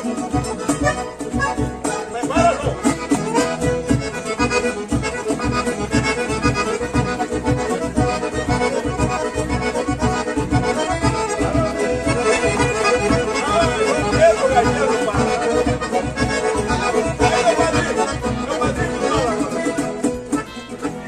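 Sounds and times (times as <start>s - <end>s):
accordion dance music: 0.0s - 21.0s
bass and drums beat: 0.0s - 21.0s.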